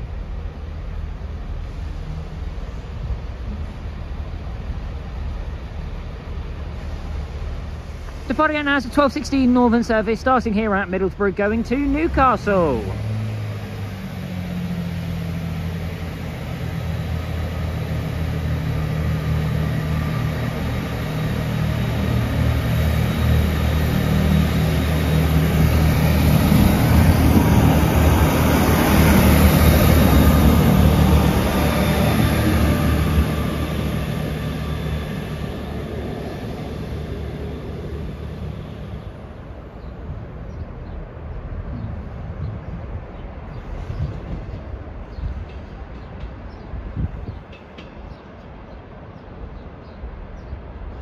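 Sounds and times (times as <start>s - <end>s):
diesel train engine hum: 0.0s - 51.0s.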